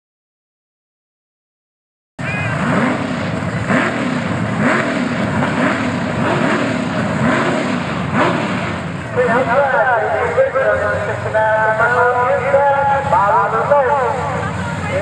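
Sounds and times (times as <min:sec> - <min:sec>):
race car engine revving: 0:02.2 - 0:15.0.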